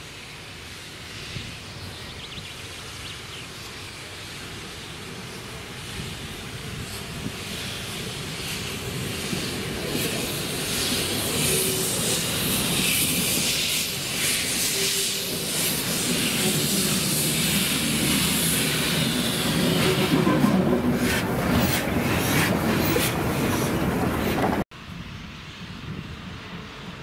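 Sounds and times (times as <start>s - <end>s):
steam hissing: 0.0s - 24.6s
steam locomotive passing slowly: 0.0s - 27.0s.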